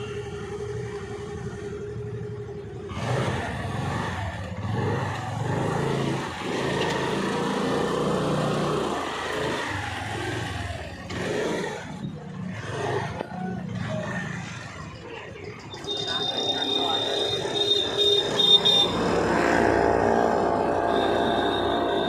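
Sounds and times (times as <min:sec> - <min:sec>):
motorcycle engine: 0:00.0 - 0:22.0.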